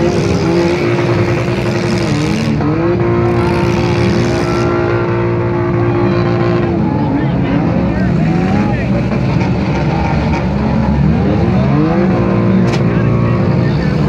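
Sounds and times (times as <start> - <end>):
car engine revving hard: 0.0 - 14.0
other engines running: 0.0 - 14.0.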